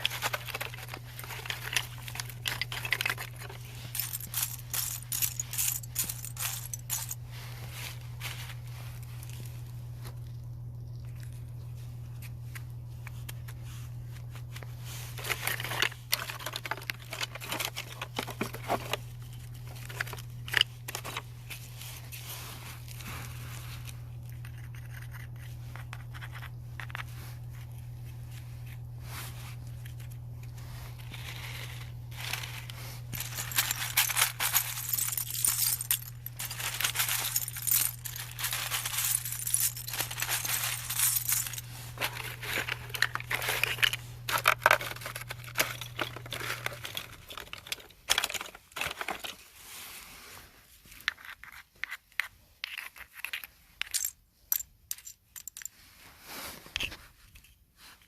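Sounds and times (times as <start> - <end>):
steady low hum: 0.0 - 48.1
objects crinkling and clicking: 0.0 - 49.6, 50.8 - 55.9.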